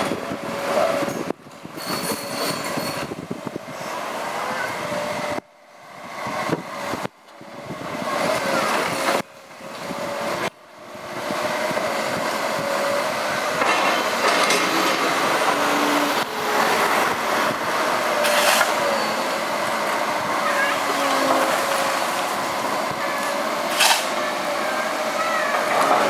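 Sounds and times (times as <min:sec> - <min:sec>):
excavator engine and hydraulics whine: 0:00.0 - 0:26.0.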